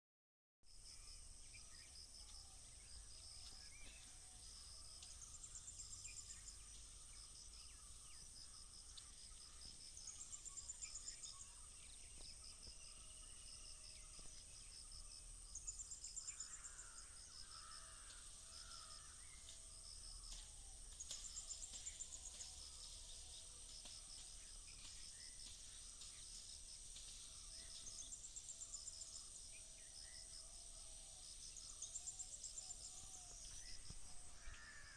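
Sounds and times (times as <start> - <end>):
high insect drone: 0.7 - 34.9.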